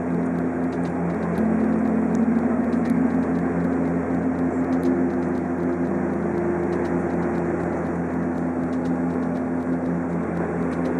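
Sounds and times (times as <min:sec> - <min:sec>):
propeller engine drone: 0:00.0 - 0:10.9.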